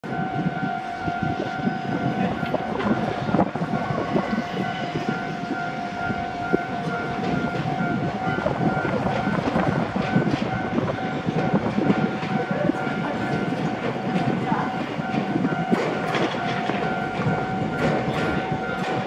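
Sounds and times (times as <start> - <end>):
level crossing alarm ringing: 0.0 - 19.0
train wheels clattering on rail joints: 0.1 - 19.0.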